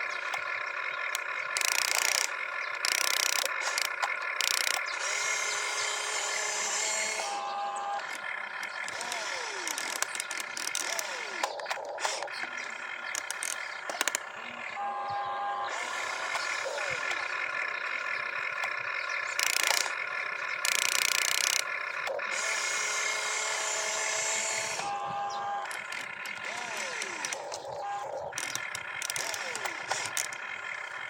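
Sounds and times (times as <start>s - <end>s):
falling whines: 0.0s - 31.0s
gears clicking and rattling: 0.0s - 31.0s
small electric motors whirring: 1.1s - 17.4s, 18.5s - 30.6s.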